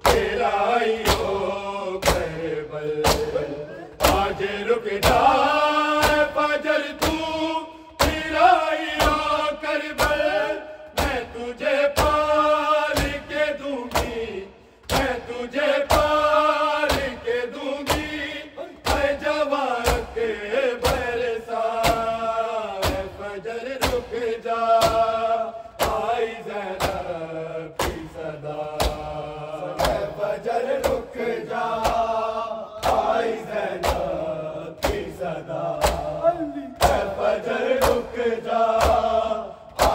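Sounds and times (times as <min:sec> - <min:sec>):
hand slaps on bare chests: 0:00.0 - 0:39.9
men chanting in unison: 0:00.0 - 0:39.9.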